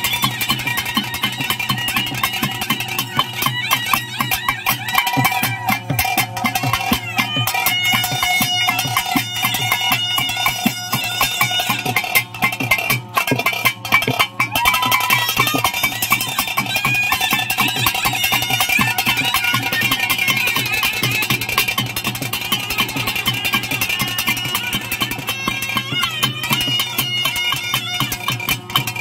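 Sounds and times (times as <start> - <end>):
rapid dense drumming: 0.0 - 29.0
reed wind instrument melody: 0.0 - 29.0.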